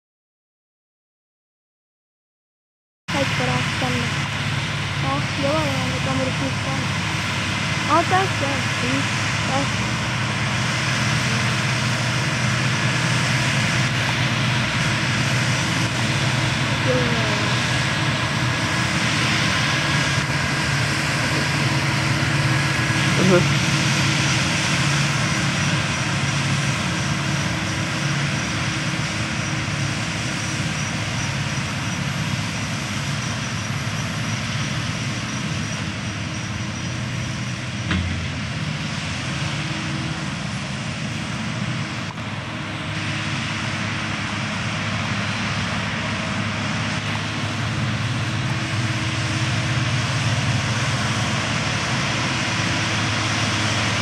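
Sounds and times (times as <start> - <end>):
tractor diesel engine droning: 3.1 - 54.0.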